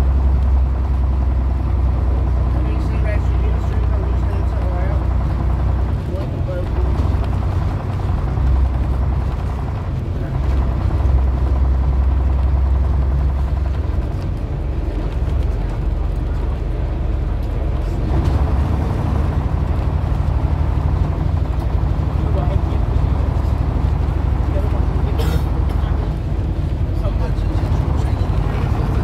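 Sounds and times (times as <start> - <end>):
bus engine droning: 0.0 - 29.0
wind and road noise: 0.0 - 29.0.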